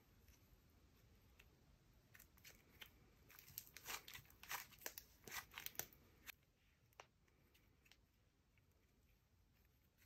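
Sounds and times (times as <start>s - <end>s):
slime squishing with crackles: 1.2s - 10.0s.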